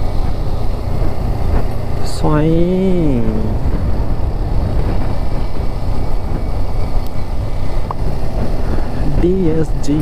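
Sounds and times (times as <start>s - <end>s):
motorcycle road noise: 0.0s - 10.0s
wind rush on microphone: 0.0s - 10.0s.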